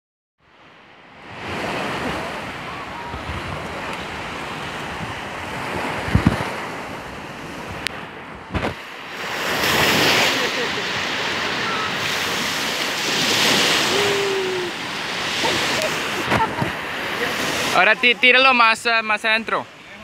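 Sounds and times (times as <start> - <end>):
small waves breaking on sand: 0.4 - 20.0
wind on microphone: 1.2 - 17.8.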